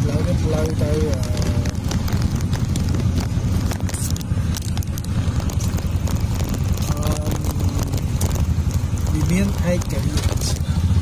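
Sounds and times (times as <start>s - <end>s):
road and traffic rumble: 0.0s - 11.0s.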